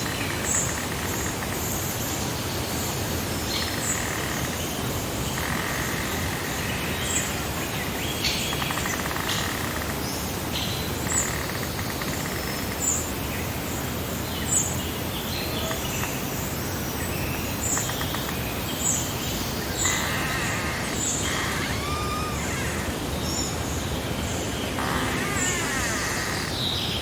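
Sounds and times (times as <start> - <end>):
steady background hiss: 0.0 - 27.0
buzzy bird calls: 3.4 - 13.2, 14.5 - 27.0.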